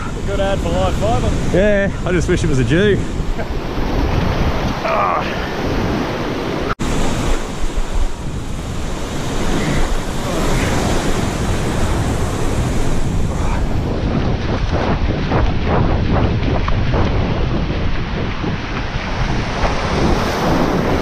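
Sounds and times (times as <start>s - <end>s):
ocean surf breaking on sand: 0.0s - 21.0s
wind buffeting microphone: 0.0s - 21.0s.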